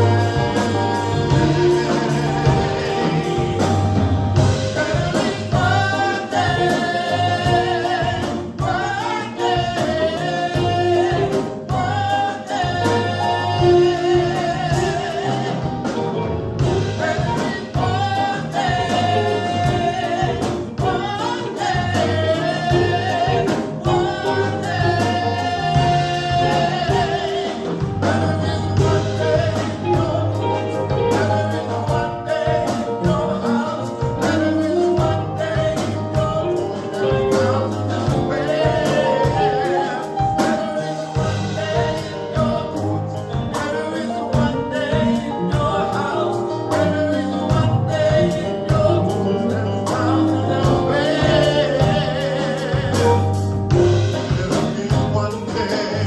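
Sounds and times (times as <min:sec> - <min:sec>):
drums and bass beat: 0:00.0 - 0:56.0
gospel band with singers: 0:00.0 - 0:56.0.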